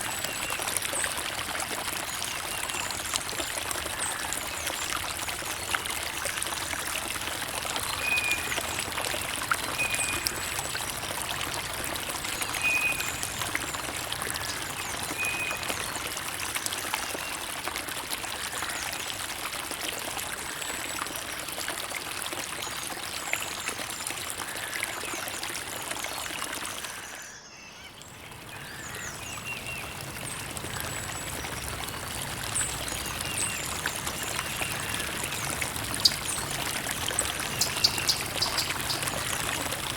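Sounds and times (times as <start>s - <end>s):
creek water babbling over stones: 0.0s - 27.4s, 28.0s - 39.9s.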